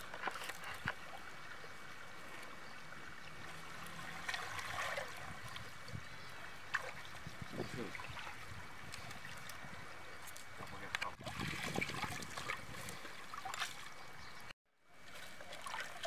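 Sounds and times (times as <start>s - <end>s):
small water splashes: 0.0s - 16.0s
water trickling from fishing net: 0.0s - 16.0s.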